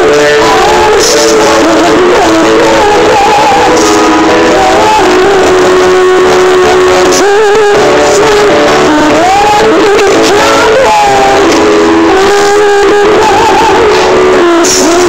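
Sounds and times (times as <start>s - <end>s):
electric guitar: 0.0s - 15.0s
woman singing through pa: 0.0s - 15.0s.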